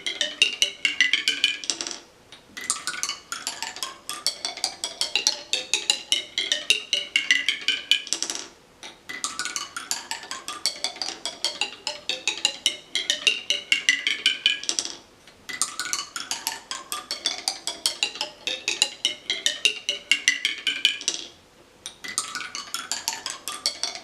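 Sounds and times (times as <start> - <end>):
marbles striking tuned tone plates: 0.0 - 8.5, 9.1 - 21.3, 21.9 - 24.0.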